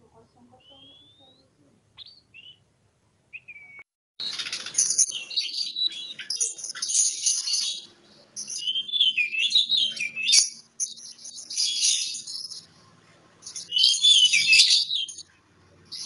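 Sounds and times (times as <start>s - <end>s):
bird singing: 0.5s - 2.6s, 3.3s - 16.0s.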